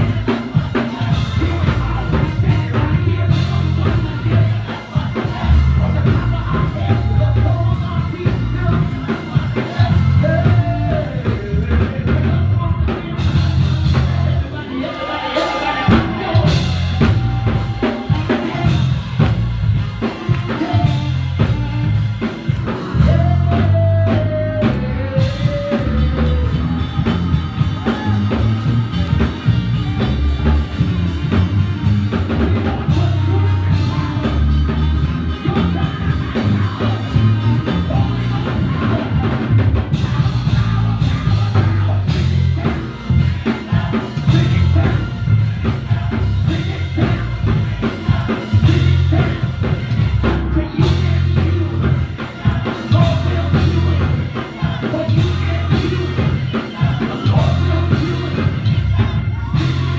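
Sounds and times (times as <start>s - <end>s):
band playing: 0.0s - 59.9s
drum kit: 0.0s - 59.9s
singing: 0.0s - 59.9s.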